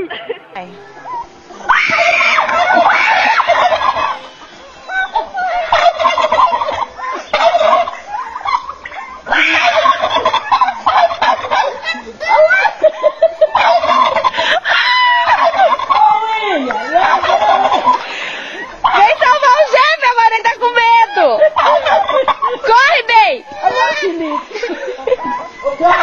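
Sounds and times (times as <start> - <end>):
turkeys gobbling: 0.2 - 26.0.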